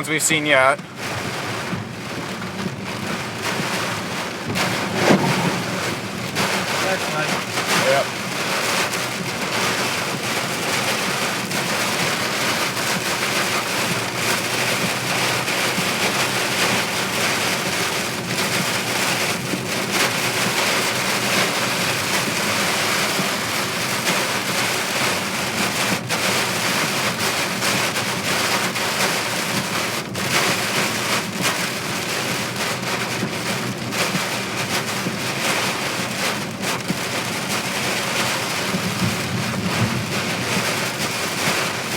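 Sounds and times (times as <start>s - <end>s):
heavy rain on a car: 0.0s - 41.9s.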